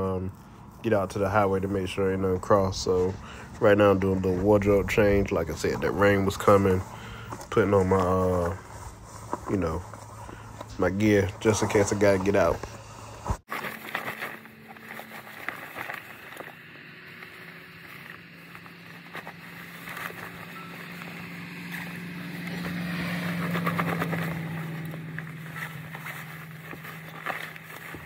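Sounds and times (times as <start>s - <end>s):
vehicle passing by: 0.0s - 13.4s, 14.4s - 28.0s
rain gear rustling: 0.0s - 28.0s.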